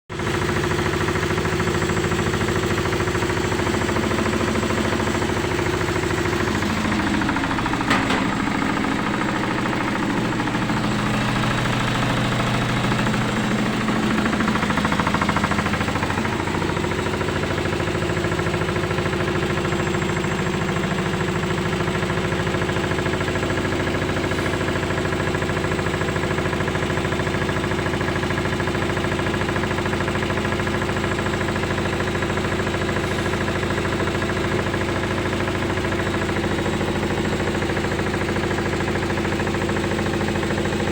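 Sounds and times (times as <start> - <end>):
washing machine spin cycle hum: 0.1 - 40.9.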